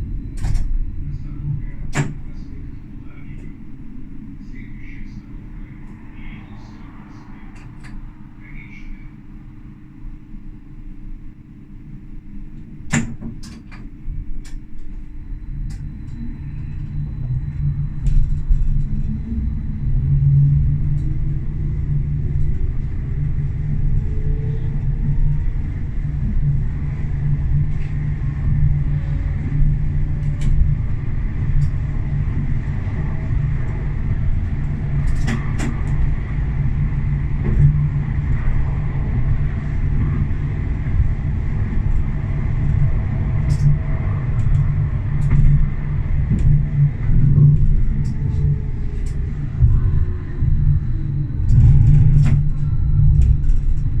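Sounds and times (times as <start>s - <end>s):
faint rising whine: 0.0s - 12.8s, 13.9s - 54.0s
tram rumbling on track: 0.0s - 54.0s.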